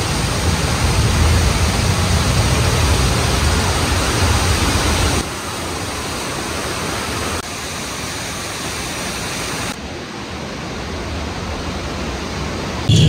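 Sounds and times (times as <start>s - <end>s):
water rushing through rock gorge: 0.0s - 12.8s.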